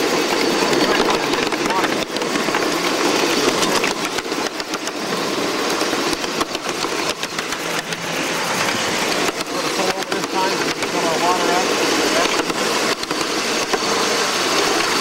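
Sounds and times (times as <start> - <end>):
steam locomotive running gear clatter: 0.0 - 15.0
wheels clicking on rails: 0.0 - 15.0.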